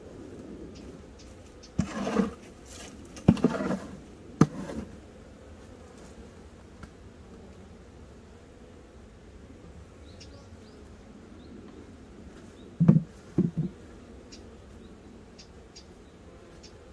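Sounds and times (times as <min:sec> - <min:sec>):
honeybees buzzing: 0:00.0 - 0:16.9.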